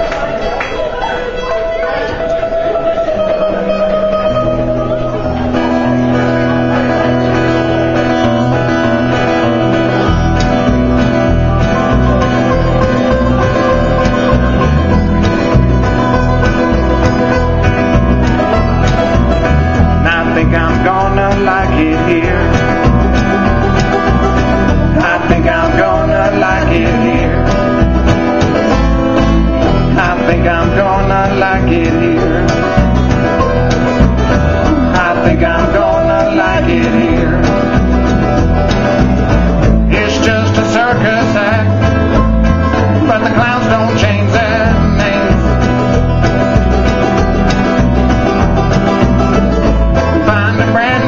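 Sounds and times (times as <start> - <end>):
acoustic string band playing bluegrass: 0.0 - 51.0.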